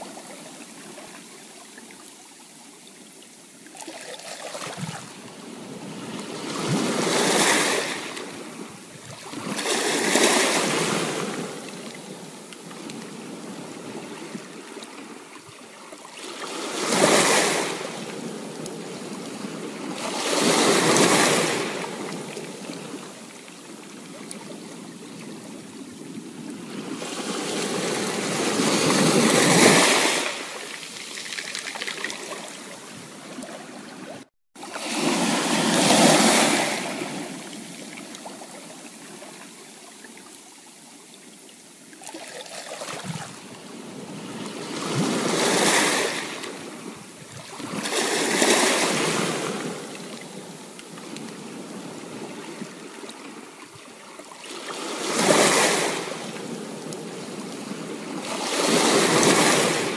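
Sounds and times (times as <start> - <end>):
ocean waves breaking on shore: 3.5 - 59.9.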